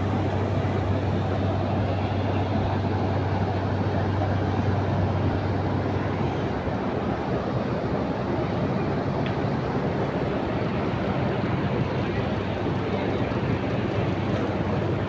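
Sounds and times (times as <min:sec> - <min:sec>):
engine drone with low hum: 0:00.0 - 0:15.0.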